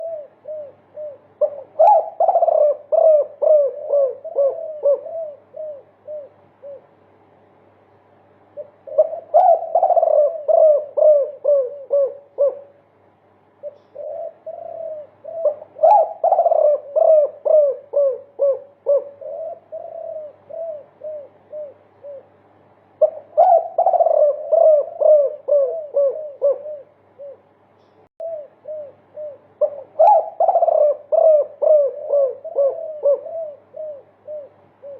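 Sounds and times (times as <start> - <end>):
dove cooing: 0.0 - 7.0, 8.5 - 12.9, 13.6 - 27.6, 28.2 - 34.9.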